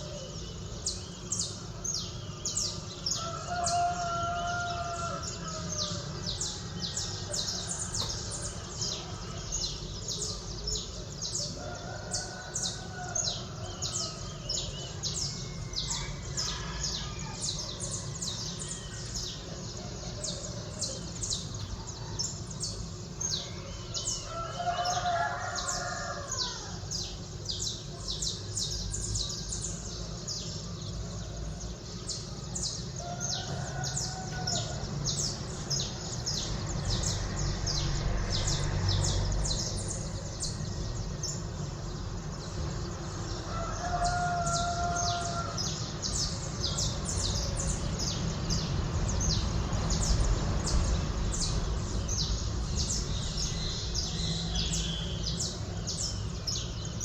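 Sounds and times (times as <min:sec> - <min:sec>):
distant rooster crowing: 0:00.0 - 0:57.0
low city rumble: 0:00.0 - 0:57.0
small birds chirping: 0:00.0 - 0:57.0.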